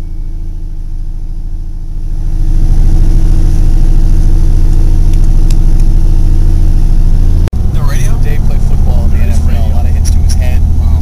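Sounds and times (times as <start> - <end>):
helicopter engine and rotors: 0.0 - 11.0.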